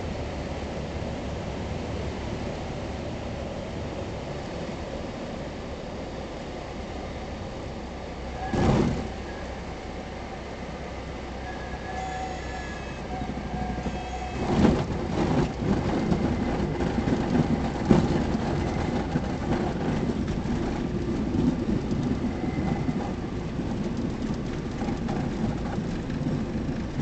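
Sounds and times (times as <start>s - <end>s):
aircraft engine at low power: 0.0s - 27.0s
wheels rumbling over rough ground: 0.0s - 27.0s.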